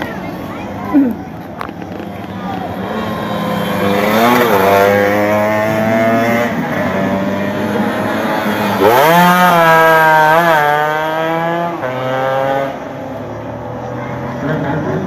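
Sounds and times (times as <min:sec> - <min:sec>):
racing motorcycle engine passing: 0:02.1 - 0:15.0.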